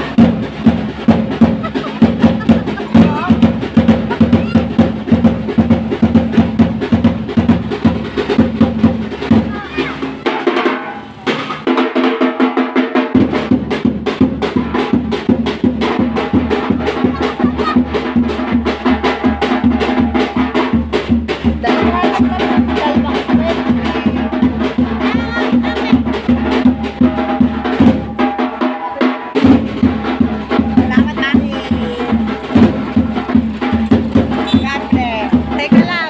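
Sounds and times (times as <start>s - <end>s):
bass drum strokes: 0.0s - 12.0s, 13.1s - 36.0s
snare drums fast beat: 0.0s - 36.0s.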